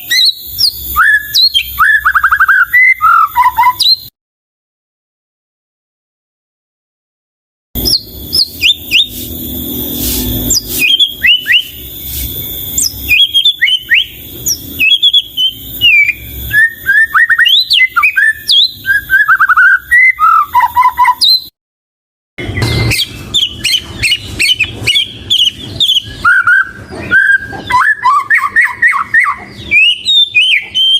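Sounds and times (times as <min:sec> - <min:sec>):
bird singing whistled notes: 0:00.0 - 0:04.1, 0:07.8 - 0:21.5, 0:22.4 - 0:30.9.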